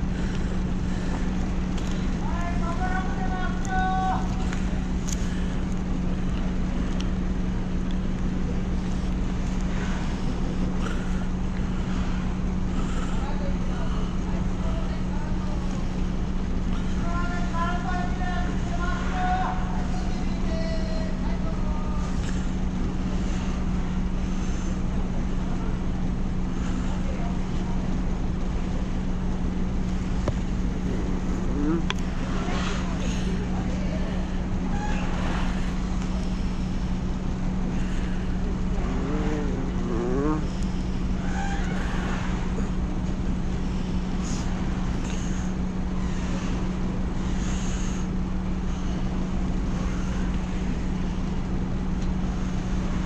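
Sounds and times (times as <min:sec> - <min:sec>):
ferry engine rumbling: 0:00.0 - 0:53.0.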